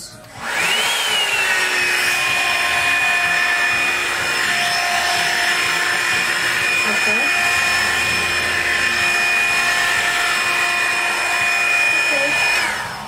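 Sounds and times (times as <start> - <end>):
hair dryer motor whine: 0.0 - 13.0.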